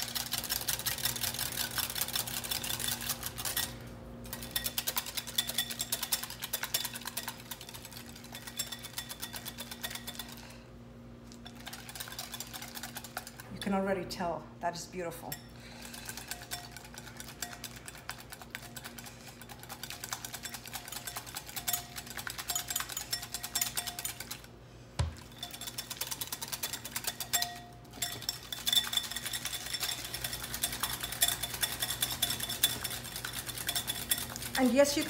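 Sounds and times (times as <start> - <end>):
whisk clinking against glass bowl: 0.0 - 10.6, 11.4 - 13.8, 15.2 - 24.5, 25.1 - 35.0.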